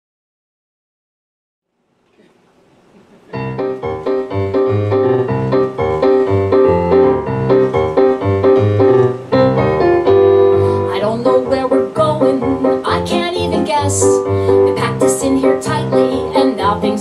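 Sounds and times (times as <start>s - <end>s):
faint room noise: 1.6s - 17.0s
piano chords: 3.2s - 17.0s.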